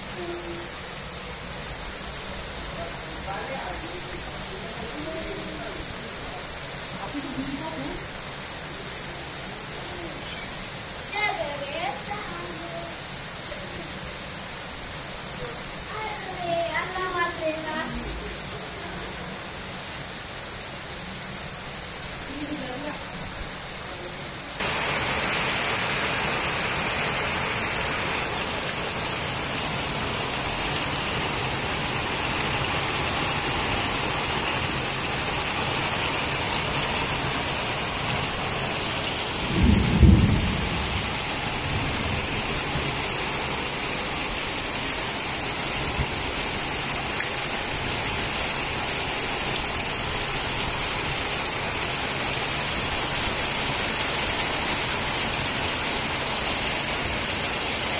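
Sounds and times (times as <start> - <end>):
heavy rain on concrete: 0.0 - 57.9.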